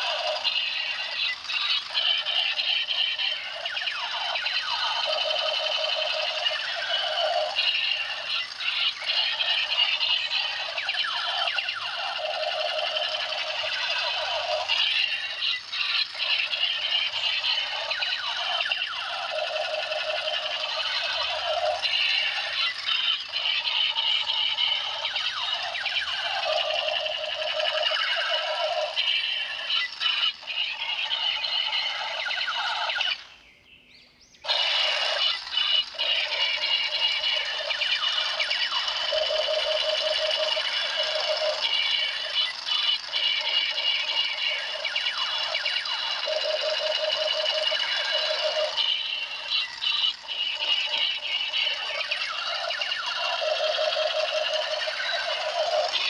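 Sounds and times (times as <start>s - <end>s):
tinny toy electronic tones: 0.0s - 33.4s, 34.5s - 56.0s.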